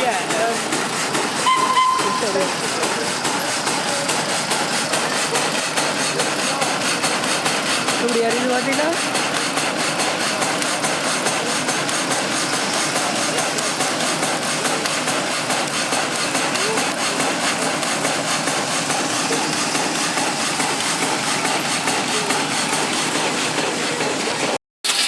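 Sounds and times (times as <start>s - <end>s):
steam cutting machine clattering: 0.0s - 25.0s.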